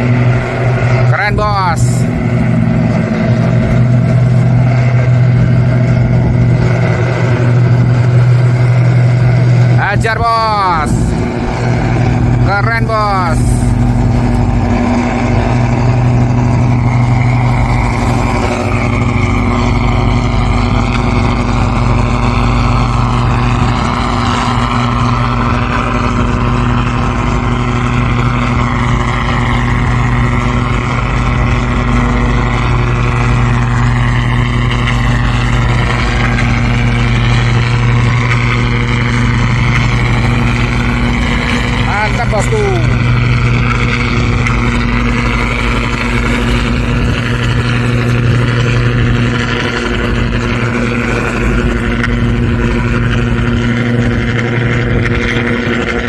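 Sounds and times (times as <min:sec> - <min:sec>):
boat diesel engine droning: 0:00.0 - 0:56.0.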